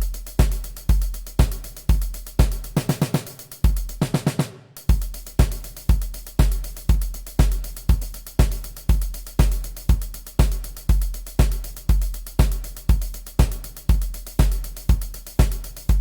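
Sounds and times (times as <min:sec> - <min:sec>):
drum machine beat: 0:00.0 - 0:16.0.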